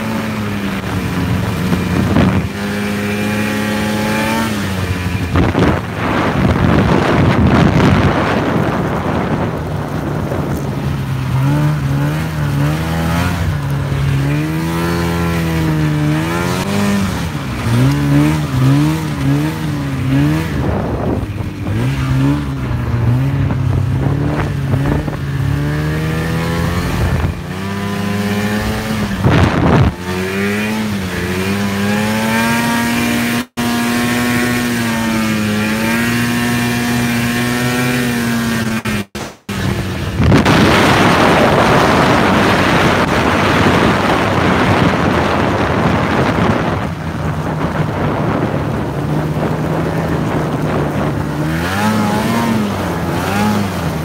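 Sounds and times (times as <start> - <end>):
snowmobile engine revving: 0.0 - 54.0
wind on microphone: 0.0 - 54.0.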